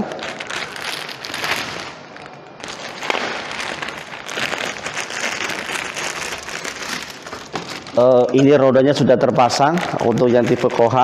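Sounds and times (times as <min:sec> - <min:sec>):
plastic bag crinkling: 0:00.0 - 0:08.6, 0:09.9 - 0:11.0.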